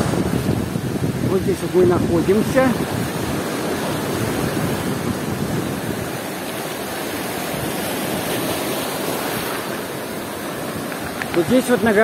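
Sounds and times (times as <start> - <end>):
surf washing over shingle: 0.0 - 12.0.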